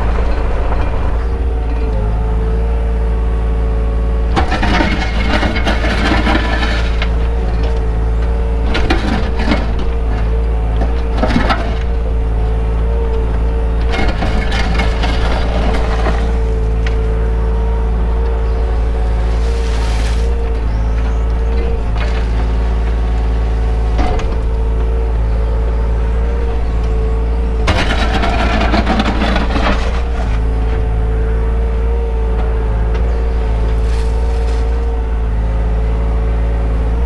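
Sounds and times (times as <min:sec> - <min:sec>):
excavator engine running with whine: 0:00.0 - 0:37.0
harsh machine working noise: 0:00.0 - 0:37.0.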